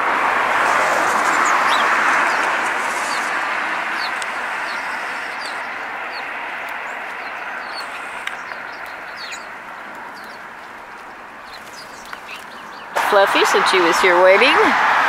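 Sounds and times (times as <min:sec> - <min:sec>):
road traffic hiss: 0:00.0 - 0:15.0
sparrows chirping: 0:01.1 - 0:14.7.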